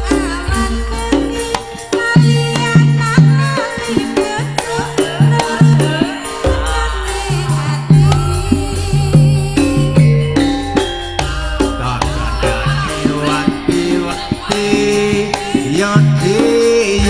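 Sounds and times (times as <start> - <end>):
band music with percussion beat: 0.0 - 17.0.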